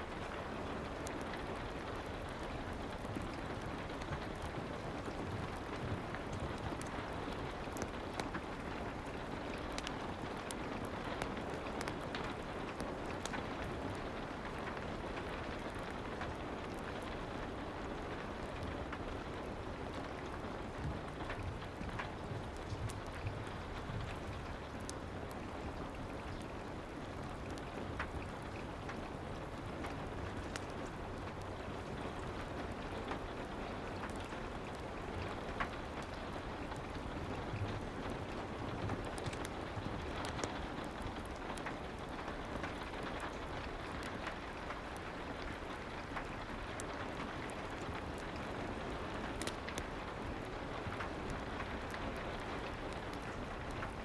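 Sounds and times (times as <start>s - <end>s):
fireplace crackling: 0.0s - 54.0s
soft rain: 0.0s - 54.0s.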